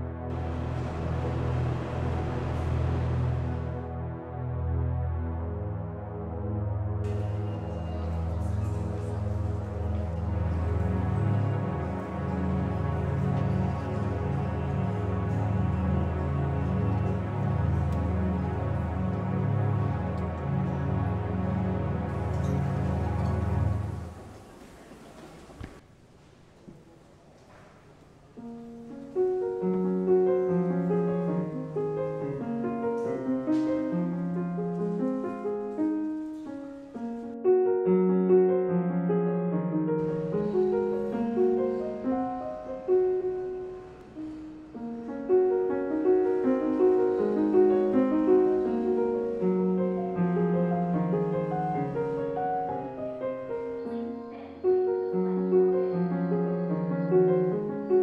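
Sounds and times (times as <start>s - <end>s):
slow piano piece: 0.0s - 25.8s, 26.8s - 58.0s.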